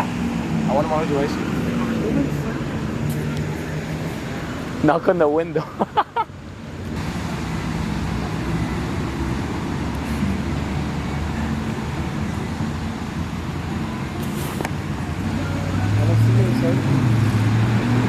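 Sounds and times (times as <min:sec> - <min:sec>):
road and traffic hum: 0:00.0 - 0:18.0.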